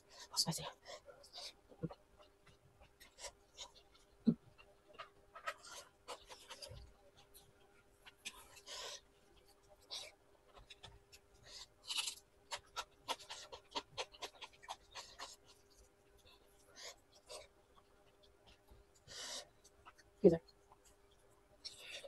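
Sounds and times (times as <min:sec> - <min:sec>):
fingers squishing through rice: 0:01.3 - 0:22.0
wet chewing and lip smacks: 0:01.8 - 0:21.8.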